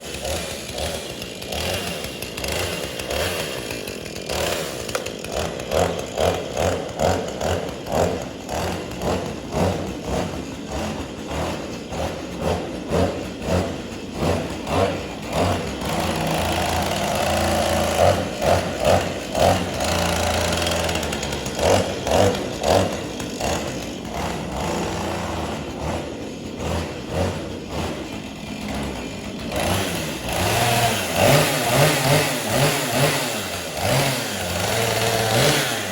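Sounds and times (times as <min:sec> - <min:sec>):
chainsaw engine revving: 0:00.0 - 0:35.9.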